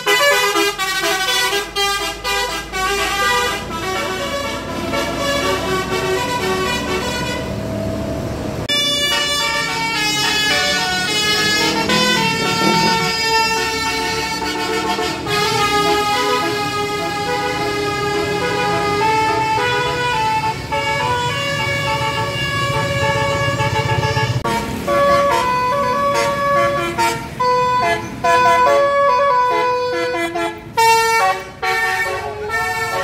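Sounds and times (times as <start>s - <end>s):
tuned air horns playing tune: 0.0s - 7.6s, 8.7s - 33.0s
bus engine rumble: 0.0s - 33.0s.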